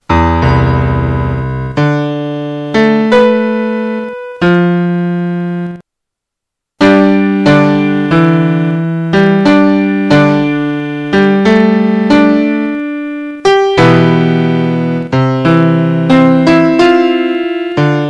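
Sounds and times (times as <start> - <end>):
slow piano chords: 0.0 - 5.8, 6.8 - 18.0.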